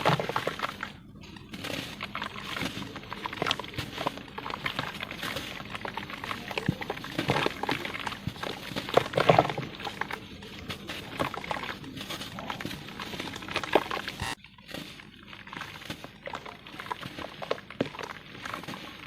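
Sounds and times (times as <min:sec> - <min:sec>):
cement lumps crumbling: 0:00.0 - 0:19.0.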